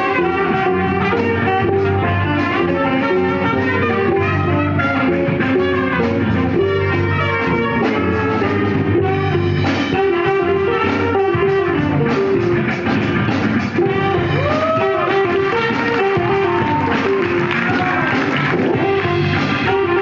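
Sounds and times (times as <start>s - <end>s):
funk-jazz band playing: 0.0s - 20.0s
steady drum beat: 0.0s - 20.0s.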